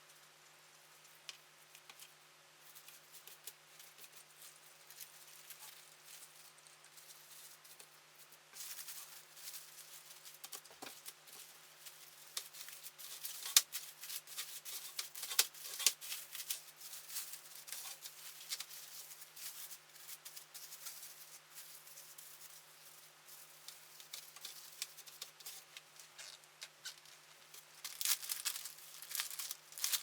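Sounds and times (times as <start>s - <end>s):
clay crackling while kneaded: 0.0s - 30.0s.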